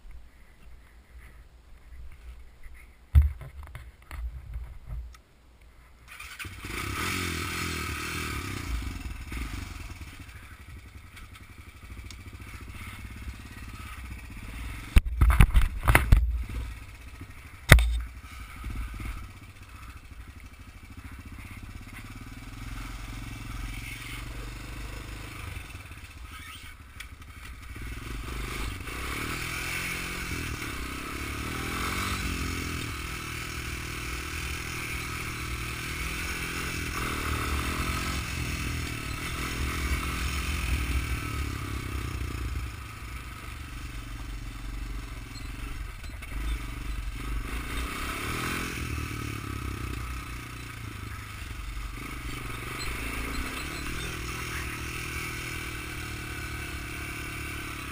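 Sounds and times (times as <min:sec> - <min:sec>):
quad engine starting and idling: 0:06.1 - 0:57.9.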